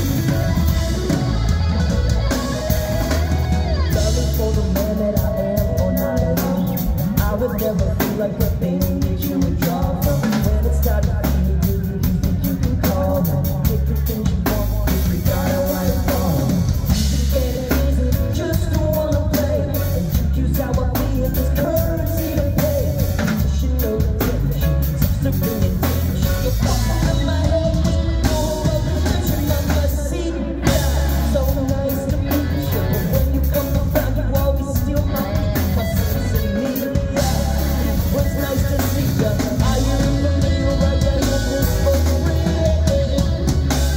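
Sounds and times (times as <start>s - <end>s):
lead singer vocals: 0.0s - 43.9s
live rock band playing: 0.0s - 43.9s.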